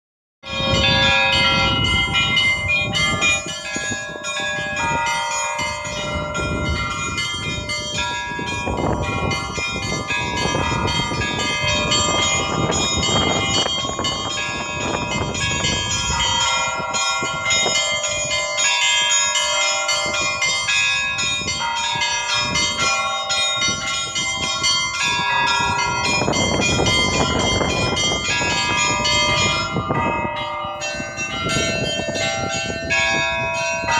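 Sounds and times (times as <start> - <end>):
church bells ringing: 0.4 - 33.9.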